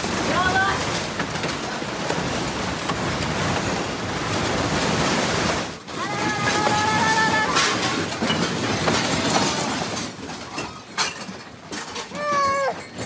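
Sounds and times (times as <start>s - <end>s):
building rattling in earthquake: 0.0s - 13.0s.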